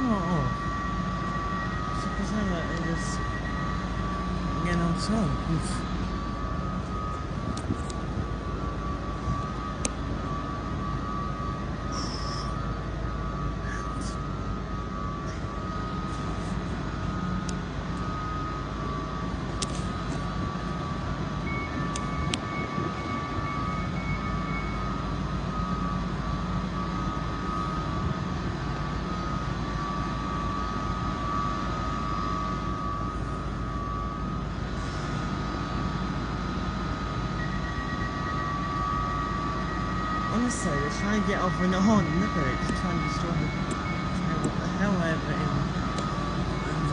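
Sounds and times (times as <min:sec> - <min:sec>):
diesel engine and fans droning: 0:00.0 - 0:46.9.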